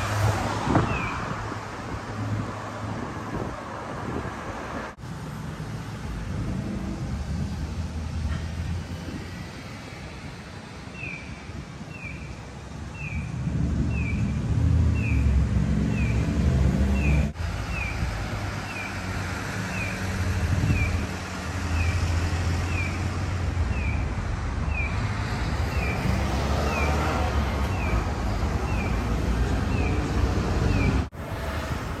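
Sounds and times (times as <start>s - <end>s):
car and bus engines: 0.0s - 32.0s.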